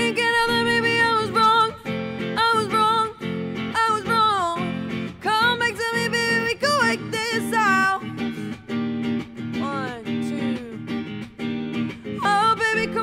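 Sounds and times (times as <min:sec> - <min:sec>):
woman singing: 0:00.0 - 0:08.6, 0:09.4 - 0:11.1, 0:11.9 - 0:13.0
clean electric guitar: 0:00.0 - 0:13.0.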